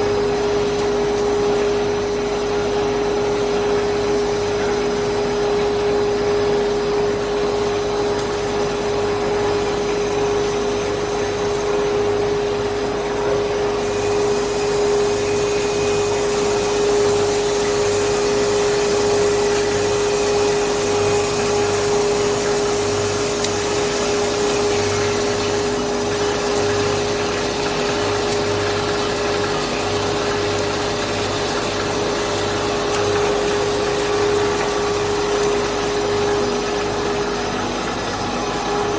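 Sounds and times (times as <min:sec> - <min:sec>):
constant hum: 0:00.0 - 0:38.9.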